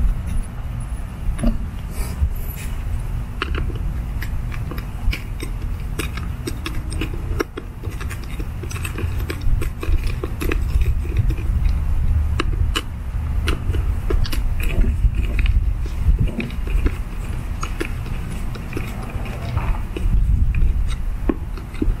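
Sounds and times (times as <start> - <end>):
steady low rumble: 0.0 - 22.0
tool clicking and scraping on screws: 3.4 - 11.8, 12.4 - 22.0.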